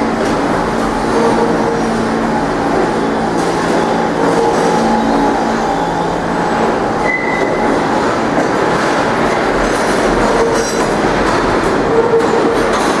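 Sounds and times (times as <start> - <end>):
subway train wheel and rail noise: 0.0 - 13.0.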